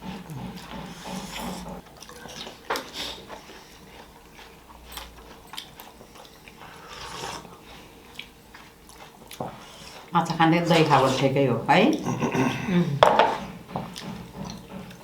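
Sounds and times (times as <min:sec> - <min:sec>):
person chewing: 0:00.0 - 0:10.2, 0:11.9 - 0:15.0.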